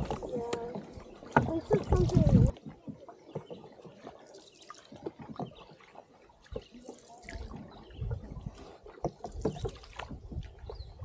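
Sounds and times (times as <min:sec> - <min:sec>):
water splashing off paddles: 0:00.0 - 0:11.0.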